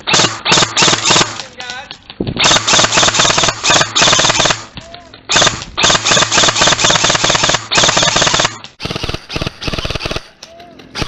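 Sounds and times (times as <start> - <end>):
airsoft gun rapid firing: 0.0 - 1.6, 2.4 - 10.4.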